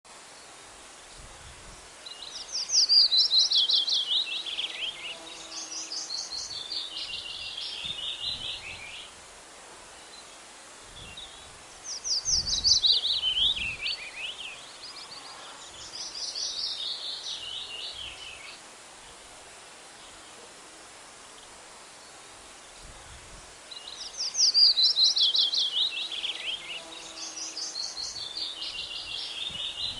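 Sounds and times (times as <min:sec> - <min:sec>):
faint outdoor hiss: 0:00.1 - 0:29.9
songbird chirping song: 0:00.1 - 0:29.9.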